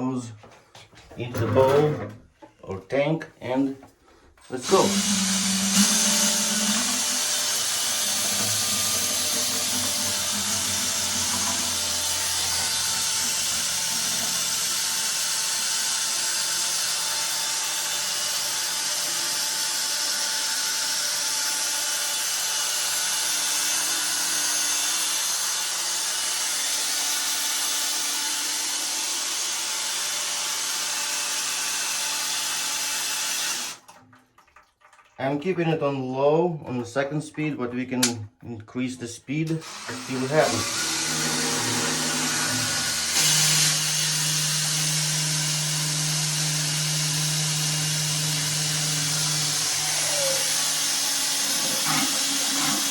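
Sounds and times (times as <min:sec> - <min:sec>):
power drill running at low speed: 0:04.4 - 0:33.8, 0:39.6 - 0:52.9.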